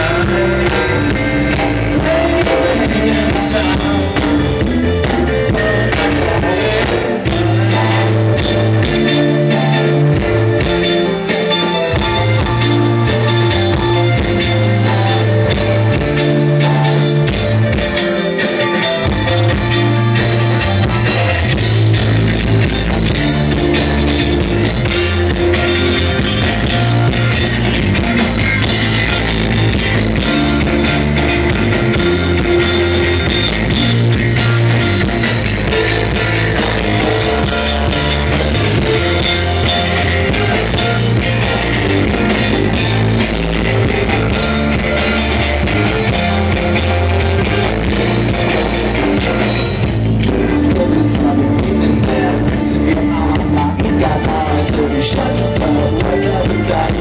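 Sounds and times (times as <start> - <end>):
instrumental rock music: 0.0 - 57.0.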